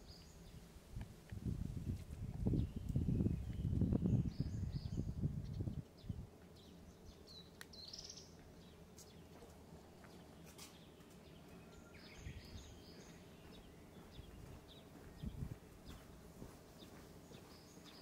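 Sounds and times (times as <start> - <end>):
low steady background hum: 0.0 - 18.0
small birds chirping: 0.0 - 18.0.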